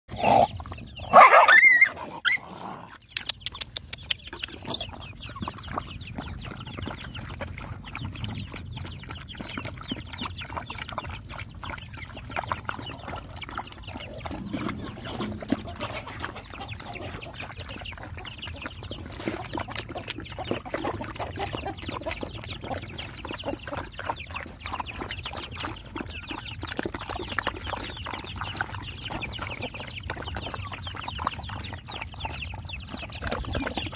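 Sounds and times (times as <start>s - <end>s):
dogs lapping and chewing food: 0.1s - 33.9s.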